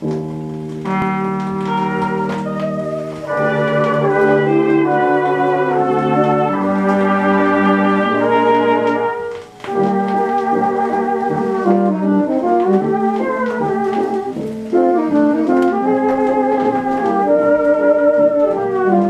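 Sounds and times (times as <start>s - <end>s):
dance orchestra on old record: 0.0s - 19.0s.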